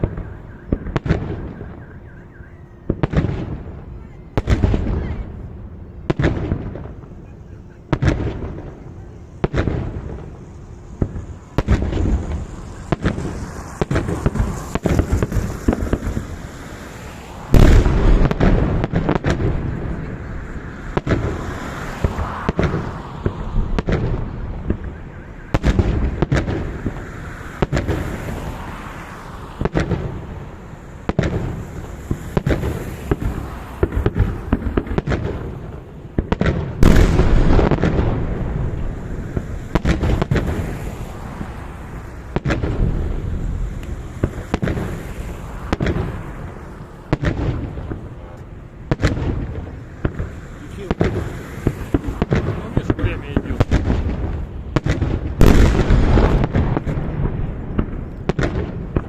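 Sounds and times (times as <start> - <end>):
fireworks crackling: 0.0 - 59.0
firework shells bursting with bangs: 6.1 - 59.0.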